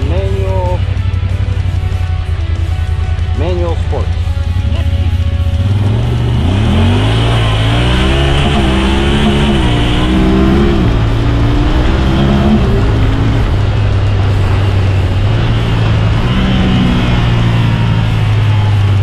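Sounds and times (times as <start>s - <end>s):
engine revving under throttle: 2.9s - 19.0s.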